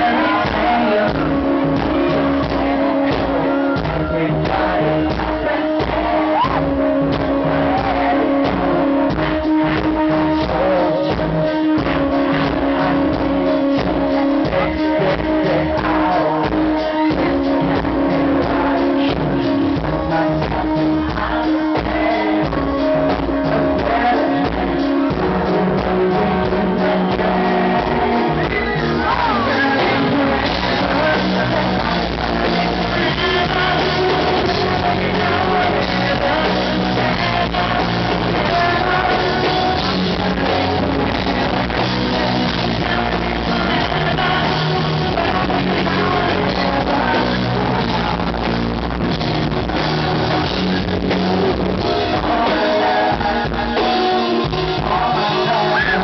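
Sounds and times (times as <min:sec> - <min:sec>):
bass guitar: 0:00.0 - 0:56.0
drum kit: 0:00.0 - 0:56.0
person singing: 0:00.0 - 0:56.0.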